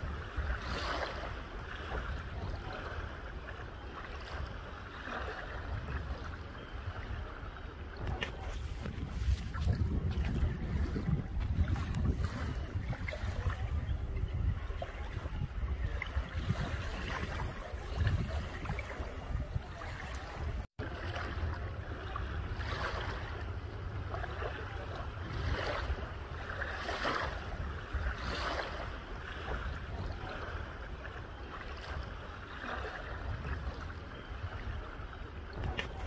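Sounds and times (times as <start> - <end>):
wavelets lapping on shore: 0.0 - 36.0
wind buffeting microphone: 0.0 - 36.0.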